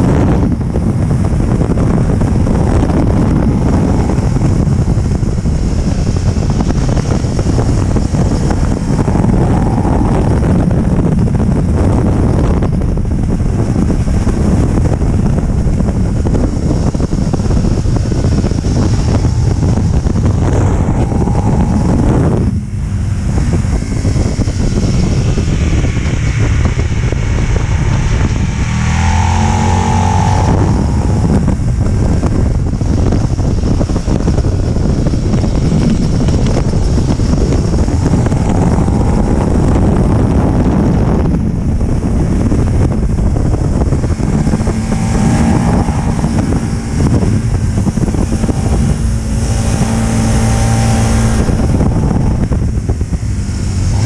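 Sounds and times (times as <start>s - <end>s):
motorcycle engine revving: 0.0s - 54.0s
wind noise on microphone: 0.0s - 54.0s.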